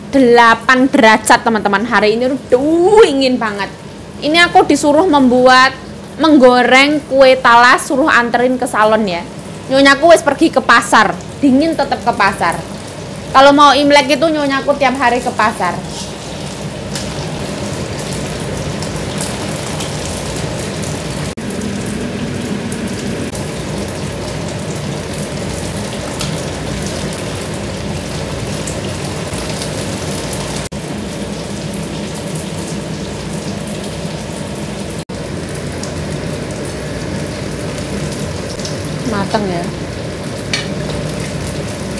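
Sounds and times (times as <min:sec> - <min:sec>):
food deep-frying in oil: 0:00.0 - 0:41.9.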